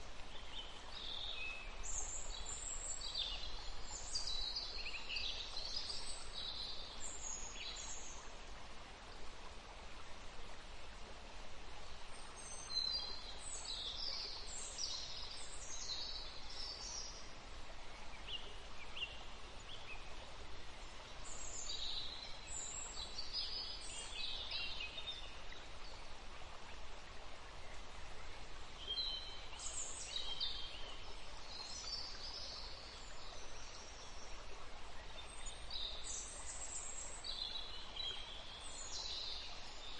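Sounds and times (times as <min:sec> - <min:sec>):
soft hiss: 0:00.0 - 0:39.9.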